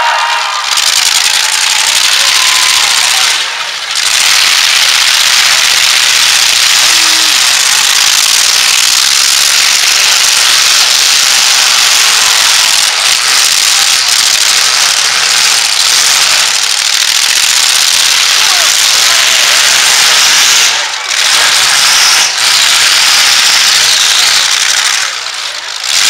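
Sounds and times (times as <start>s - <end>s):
truck engines running: 0.0s - 26.0s.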